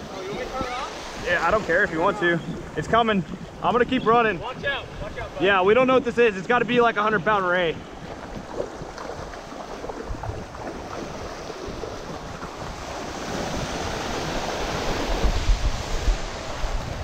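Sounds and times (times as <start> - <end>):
shallow surf breaking: 0.0 - 17.0
wind gusting on microphone: 0.0 - 17.0.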